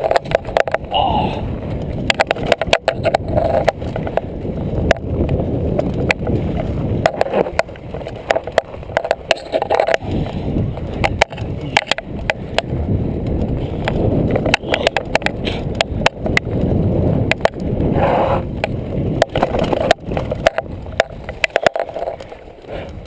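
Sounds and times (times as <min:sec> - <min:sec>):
bike knocking and rattling: 0:00.0 - 0:23.0
bike tyres rumbling on dirt: 0:00.0 - 0:23.0.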